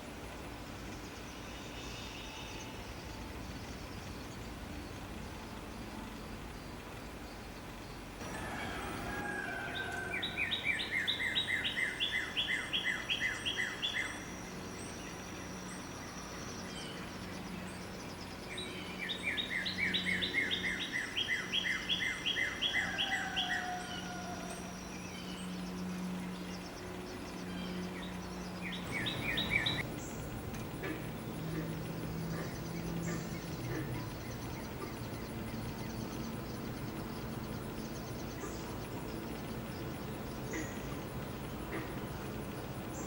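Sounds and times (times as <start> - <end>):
faint steady hum: 0.0 - 43.0
songbird singing: 0.0 - 43.0.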